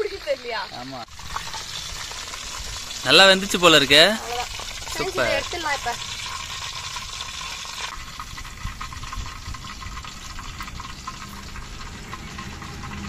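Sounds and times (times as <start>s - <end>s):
deep-frying sizzle and pops: 0.0s - 13.0s.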